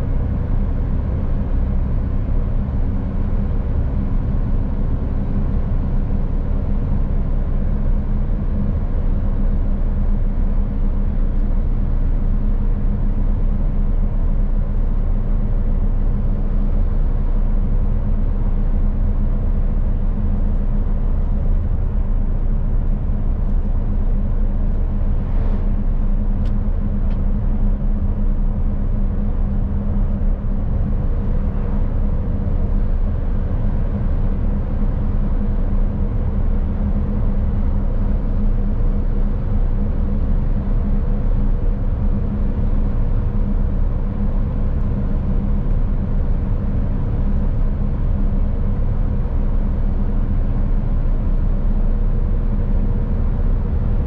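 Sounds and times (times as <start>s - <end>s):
road and tyre noise: 0.0s - 54.0s
truck diesel engine droning: 0.0s - 54.0s.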